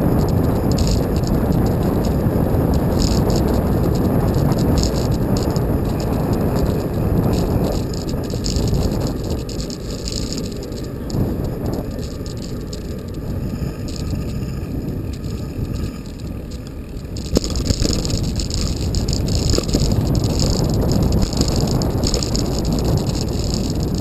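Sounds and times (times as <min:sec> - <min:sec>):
bike and mount rattling: 0:00.0 - 0:24.0
wind rushing over microphone: 0:00.0 - 0:24.0.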